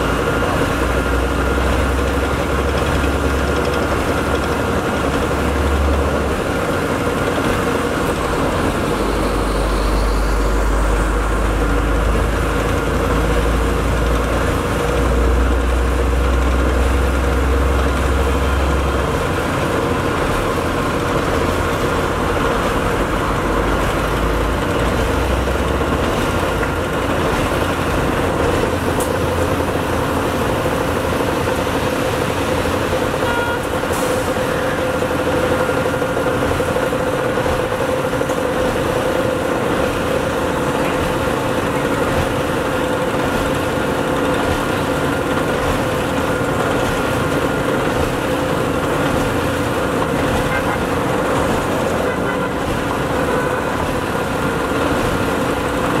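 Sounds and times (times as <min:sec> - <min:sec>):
heavy diesel engines droning: 0:00.0 - 0:56.0.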